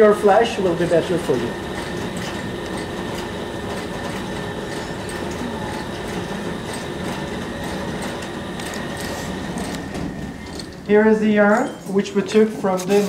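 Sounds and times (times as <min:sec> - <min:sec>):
machine rattling with faint whine: 0:00.0 - 0:13.0.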